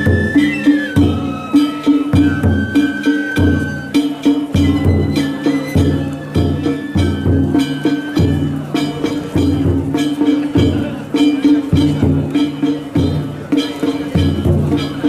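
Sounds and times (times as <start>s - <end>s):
taiko drum beating: 0.0s - 15.0s.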